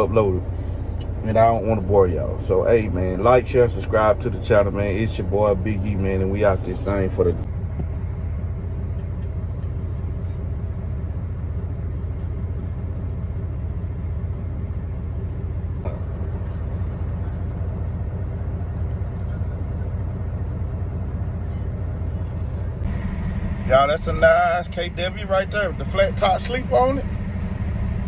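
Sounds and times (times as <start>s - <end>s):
diesel truck engine droning: 0.0s - 28.0s.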